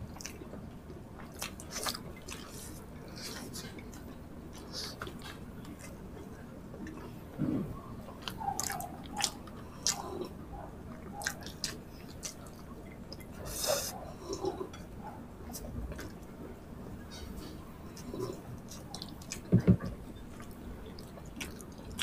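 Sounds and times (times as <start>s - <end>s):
people chewing with wet smacks: 0.0s - 16.3s, 17.0s - 22.0s.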